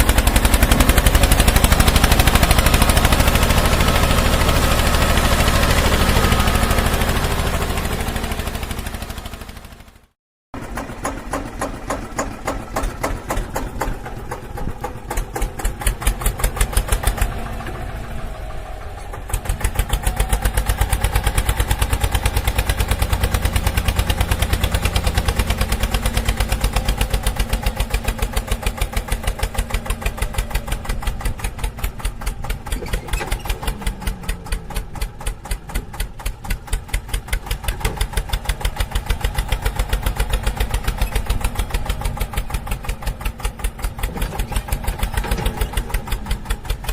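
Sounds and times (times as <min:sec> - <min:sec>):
tractor engine throbbing: 0:00.0 - 0:46.9.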